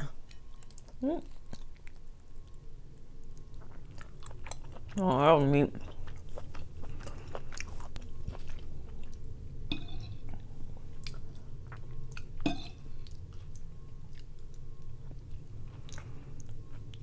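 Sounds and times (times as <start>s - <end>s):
close chewing: 0.2s - 9.4s, 10.2s - 17.0s.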